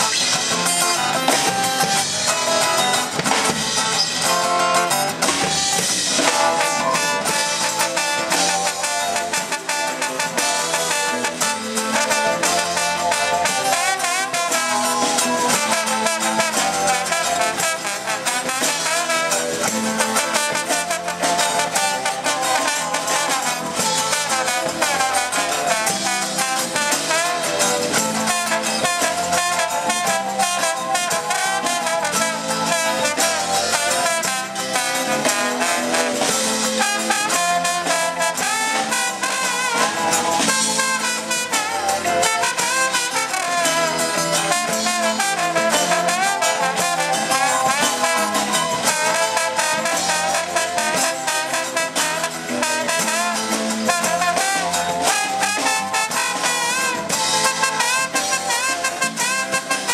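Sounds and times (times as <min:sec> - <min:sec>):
latin band music: 0:00.0 - 0:59.9
trombone lead: 0:00.0 - 0:59.9.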